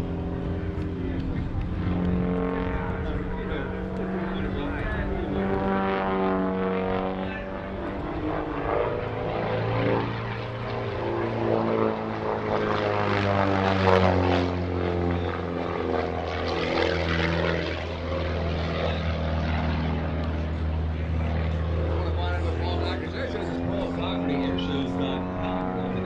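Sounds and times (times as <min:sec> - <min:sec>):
propeller plane engine: 0:00.0 - 0:26.0.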